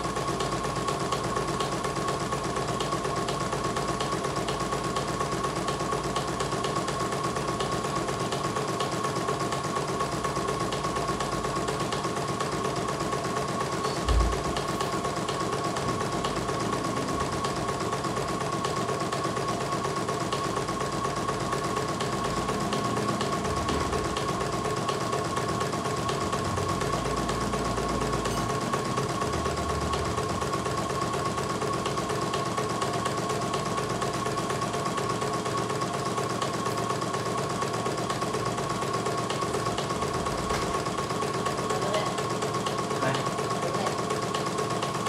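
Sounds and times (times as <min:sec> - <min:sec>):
embroidery machine stitching: 0:00.0 - 0:45.0.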